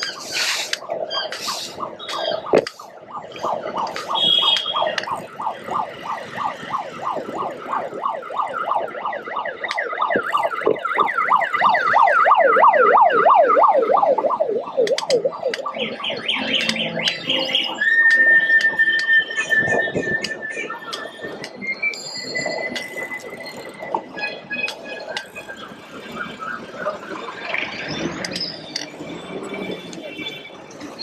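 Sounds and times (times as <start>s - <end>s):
electronic siren yelping: 0.0s - 30.0s.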